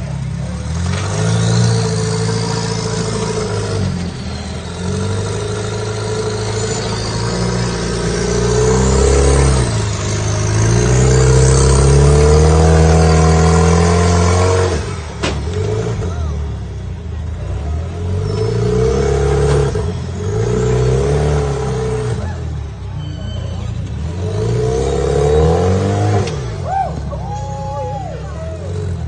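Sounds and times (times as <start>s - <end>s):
buggy engine revving hard: 0.0s - 29.0s.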